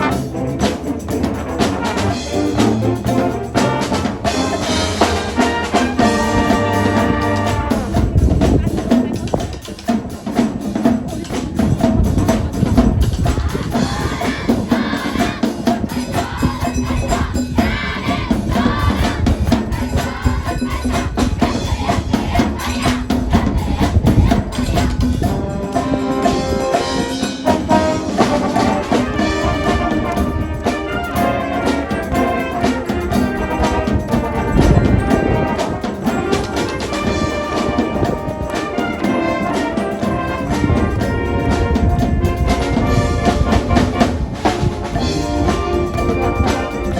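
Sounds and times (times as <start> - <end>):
drumline drumming: 0.0 - 46.9
marching band brass: 0.0 - 46.9.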